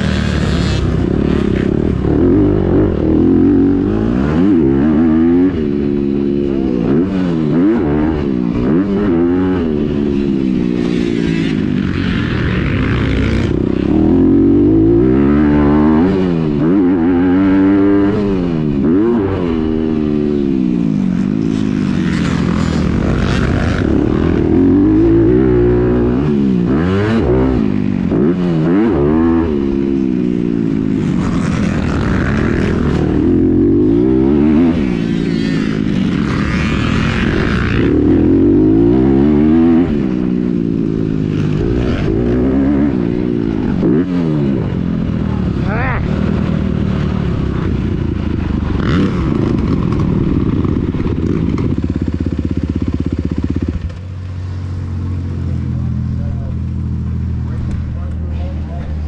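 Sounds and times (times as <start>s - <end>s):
motocross engine racing: 0.0s - 59.0s.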